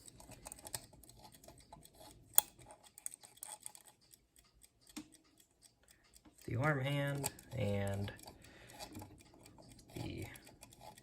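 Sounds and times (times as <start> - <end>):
alarm clock clicks: 0.0 - 11.0.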